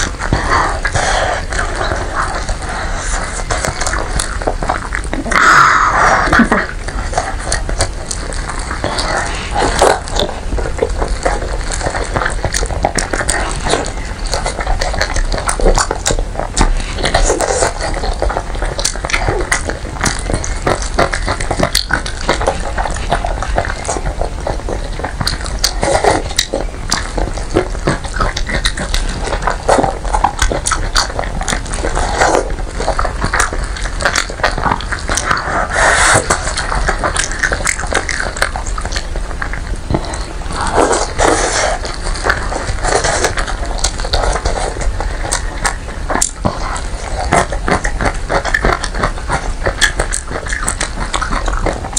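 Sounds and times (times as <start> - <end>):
wet chewing and lip smacking: 0.0 - 51.9.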